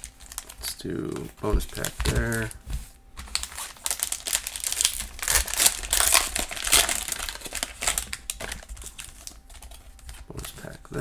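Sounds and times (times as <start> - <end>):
plastic wrapper crinkling: 0.0 - 2.6, 3.2 - 11.0.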